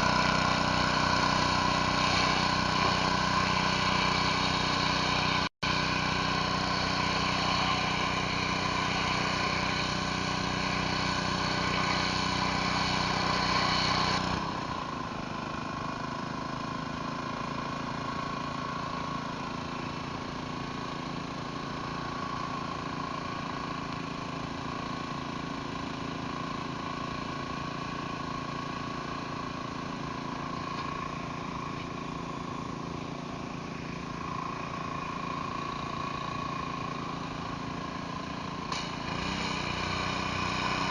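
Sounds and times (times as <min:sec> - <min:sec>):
pressure washer engine running: 0:00.0 - 0:40.9.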